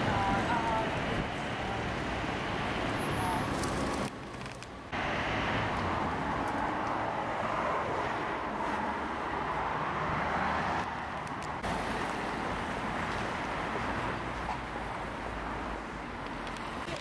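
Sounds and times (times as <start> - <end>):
cars passing on road: 0.0 - 17.0.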